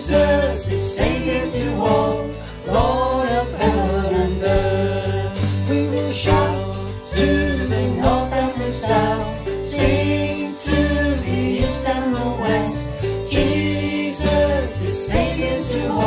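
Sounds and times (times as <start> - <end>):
acoustic guitar: 0.0 - 16.0
electric bass guitar: 0.0 - 16.0
voices singing together: 0.0 - 16.0.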